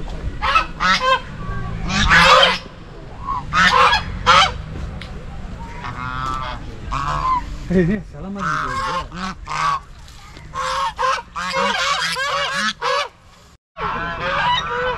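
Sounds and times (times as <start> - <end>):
geese honking: 0.3 - 7.7, 8.3 - 14.9.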